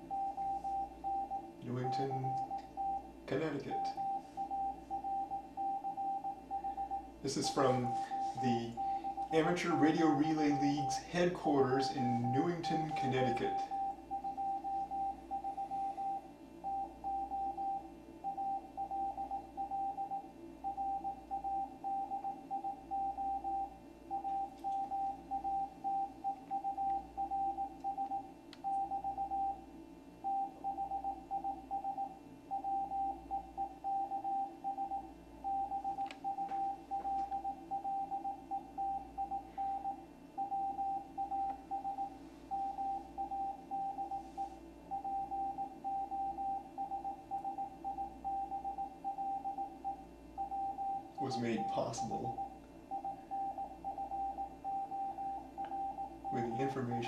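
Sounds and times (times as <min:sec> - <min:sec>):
morse code tone: 0:00.0 - 0:29.6, 0:30.2 - 0:57.0
receiver noise: 0:00.0 - 0:57.0.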